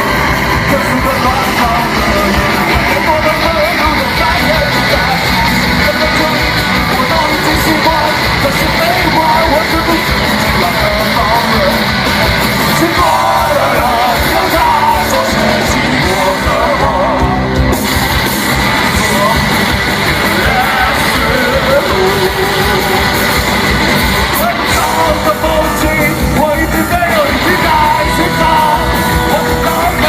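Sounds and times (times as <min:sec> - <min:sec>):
person singing: 0:00.0 - 0:17.7, 0:18.7 - 0:30.0
rock band playing live: 0:00.0 - 0:30.0.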